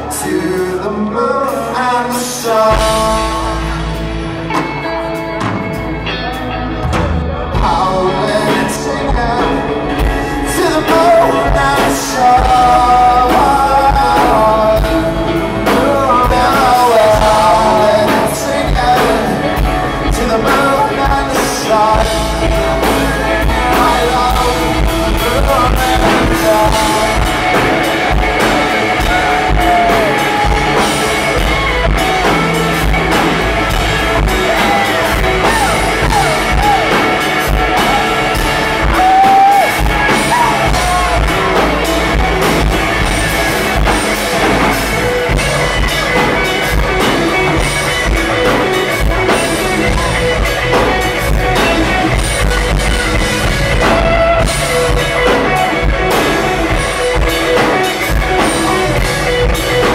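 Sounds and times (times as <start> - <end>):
bass guitar: 0.0 - 59.9
drum kit: 0.0 - 59.9
electric guitar: 0.0 - 59.9
man singing: 0.0 - 59.9.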